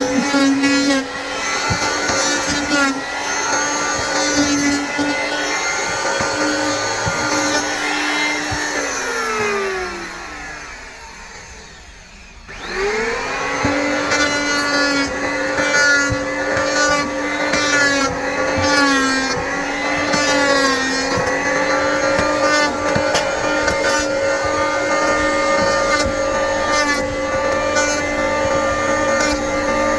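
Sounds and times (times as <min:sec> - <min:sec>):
electric planer motor whine: 0:00.0 - 0:29.9.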